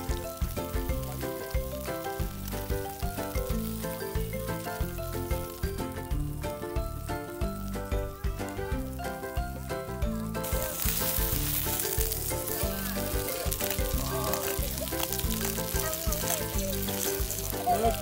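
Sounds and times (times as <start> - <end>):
background music: 0.0 - 18.0
fish sizzling in oil: 0.0 - 18.0.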